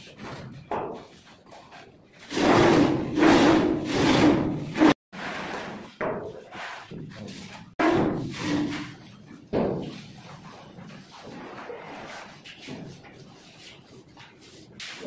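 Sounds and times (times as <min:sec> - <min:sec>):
plastering tool scraping plaster: 0:01.0 - 0:15.0.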